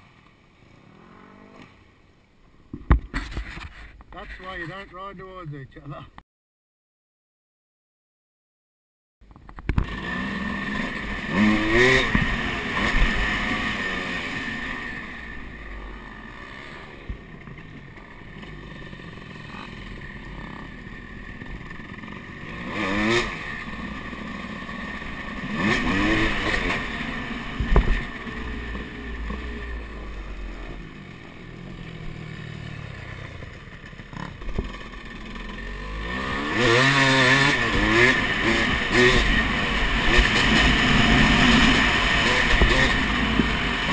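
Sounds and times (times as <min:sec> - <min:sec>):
dirt bike engine revving: 0:00.7 - 0:01.8, 0:09.7 - 0:43.9.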